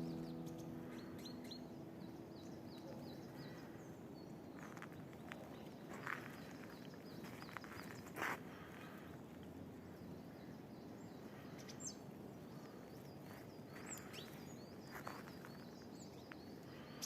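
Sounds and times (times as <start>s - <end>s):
small songbird chirping: 0.0s - 8.2s, 8.9s - 17.0s.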